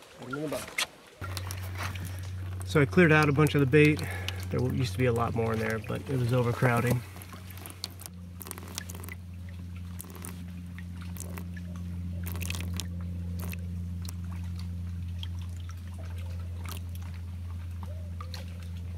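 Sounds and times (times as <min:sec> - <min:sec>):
water splashing and dripping: 0:00.2 - 0:18.9
steady low hum: 0:01.2 - 0:18.9.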